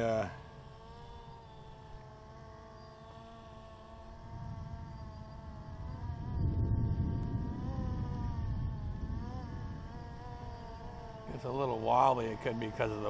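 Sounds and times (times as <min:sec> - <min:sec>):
drone motors buzzing whine: 0:00.0 - 0:13.0
wind rumbling on microphone: 0:00.0 - 0:13.0.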